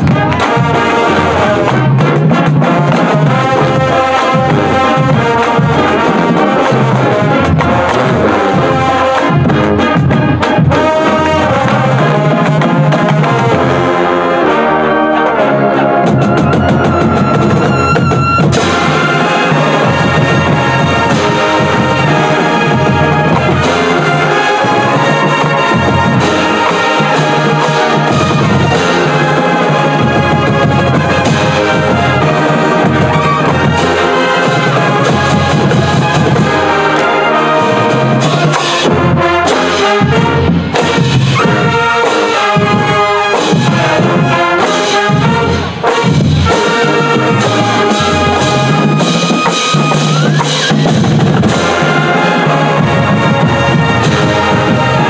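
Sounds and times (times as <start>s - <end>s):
percussion beat: 0.0s - 13.8s, 16.0s - 55.0s
brass band music: 0.0s - 55.0s.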